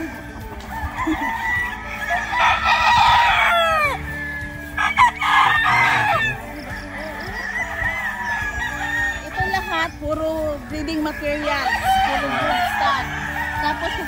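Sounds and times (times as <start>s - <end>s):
roosters crowing: 0.0s - 14.0s.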